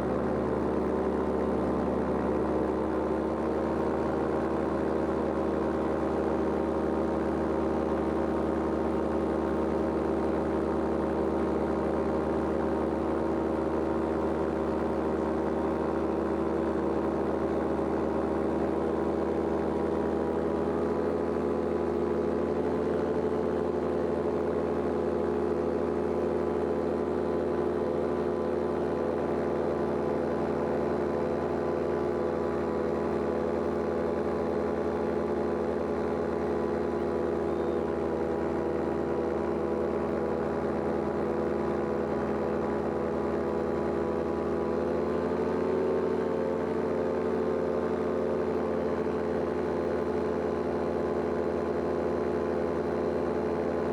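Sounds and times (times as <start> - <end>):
paramotor engine and propeller: 0.0 - 53.9.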